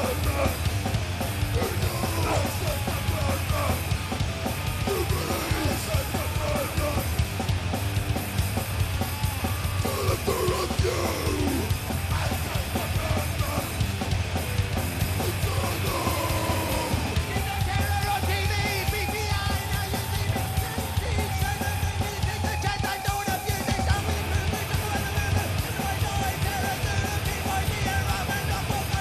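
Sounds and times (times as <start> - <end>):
drum kit pounding: 0.0 - 29.0
electric guitars churning: 0.0 - 29.0
live punk metal band: 0.0 - 29.0.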